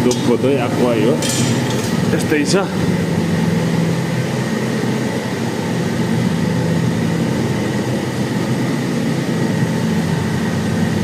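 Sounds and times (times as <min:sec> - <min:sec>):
high steady whine: 0:00.0 - 0:11.0
machinery hum and whir: 0:00.0 - 0:11.0.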